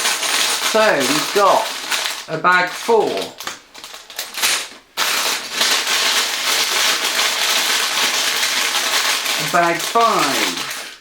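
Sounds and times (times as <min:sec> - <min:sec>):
plastic bags crinkling: 0:00.0 - 0:11.0
plastic bricks rattling: 0:00.0 - 0:11.0.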